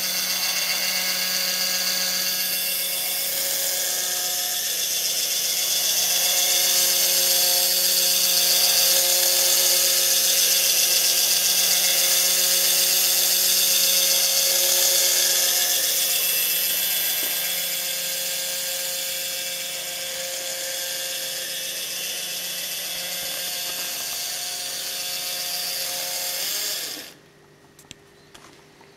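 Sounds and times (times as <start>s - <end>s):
small electric motor whirring: 0.0s - 27.2s.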